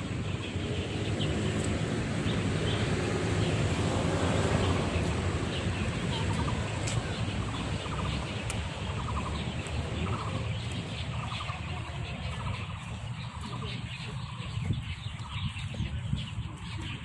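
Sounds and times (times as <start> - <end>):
birds rattling calls: 0.0 - 17.0.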